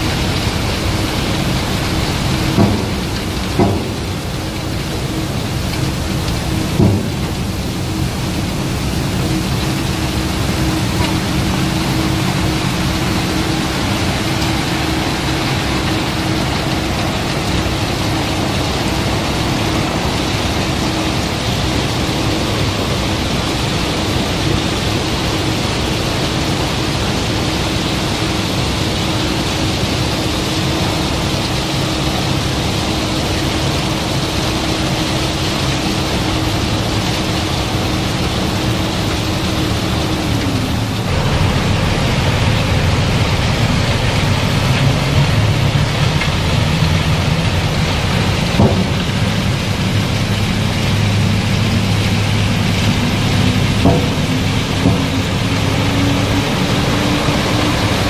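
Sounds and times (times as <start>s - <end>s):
deep engine drone: 0.0s - 58.0s
machine hum: 0.0s - 58.0s
unloading machinery rumble: 0.0s - 58.0s.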